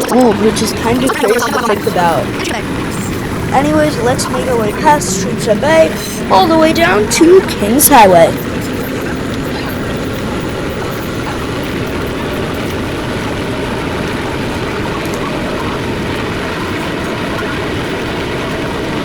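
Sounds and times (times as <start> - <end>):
rumble of subway wheels on rails: 0.0 - 19.0.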